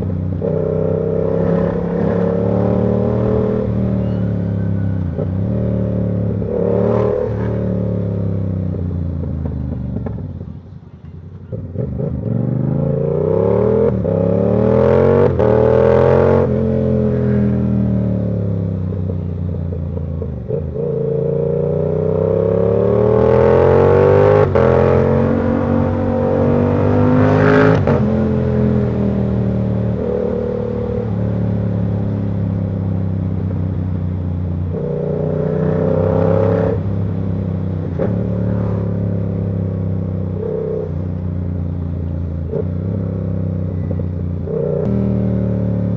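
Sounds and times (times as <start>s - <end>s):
motorcycle engine revving: 0.0s - 10.4s, 11.4s - 45.9s.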